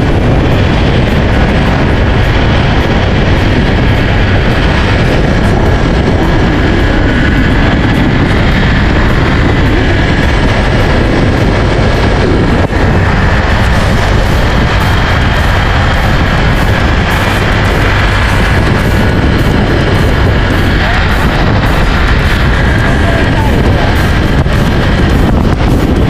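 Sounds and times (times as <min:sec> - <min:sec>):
moving vehicle running: 0:00.0 - 0:26.0
wind rushing on microphone: 0:00.0 - 0:26.0.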